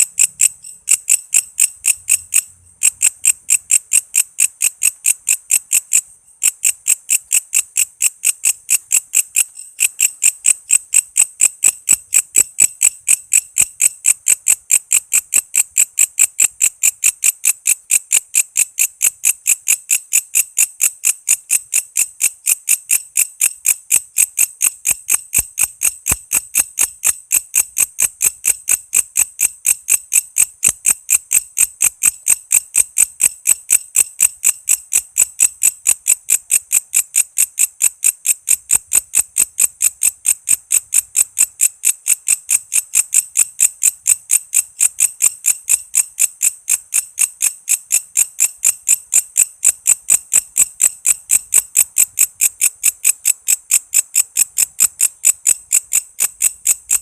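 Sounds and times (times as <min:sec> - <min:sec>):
katydid chirping: 0:00.0 - 0:57.0.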